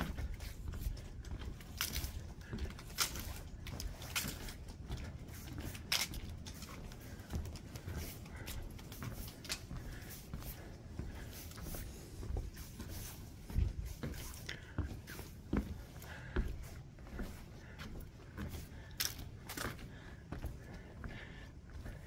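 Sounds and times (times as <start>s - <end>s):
footsteps on wooden boardwalk: 0.0s - 22.0s.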